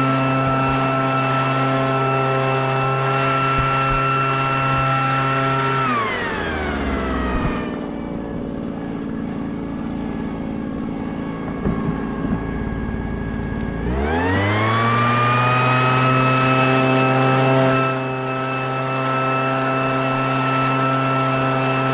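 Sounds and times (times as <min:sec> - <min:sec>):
leaf blower engine idling and revving: 0:00.0 - 0:21.9.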